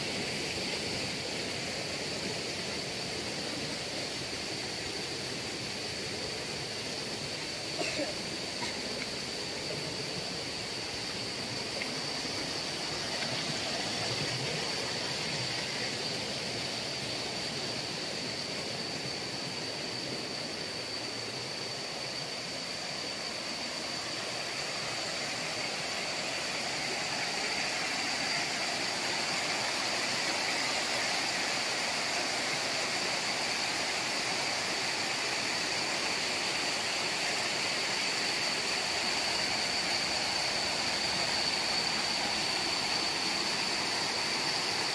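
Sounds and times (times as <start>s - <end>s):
high-pitched whine: 0.0s - 44.9s.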